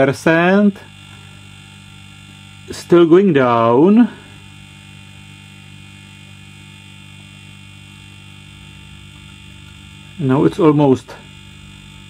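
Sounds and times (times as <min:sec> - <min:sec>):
compressors humming: 0:00.0 - 0:12.0.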